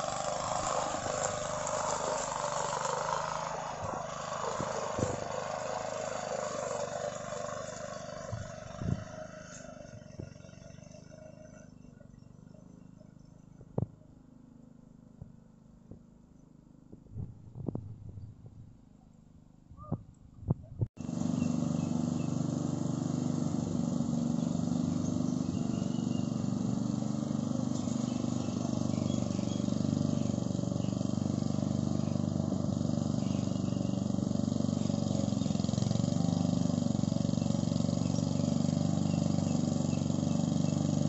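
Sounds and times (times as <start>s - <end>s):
lawn mower engine cutting grass: 0.0s - 17.8s, 21.0s - 41.0s.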